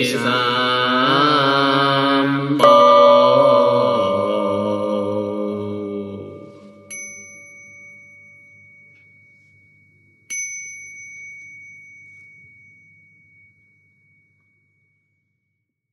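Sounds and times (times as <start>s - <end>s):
ritual bell ringing: 2.6s - 15.5s.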